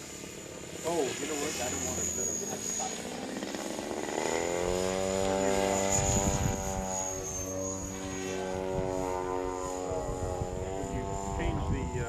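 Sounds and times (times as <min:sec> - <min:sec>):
high thin motor whine: 0:00.0 - 0:12.0
model helicopter rotor hum: 0:00.0 - 0:12.0.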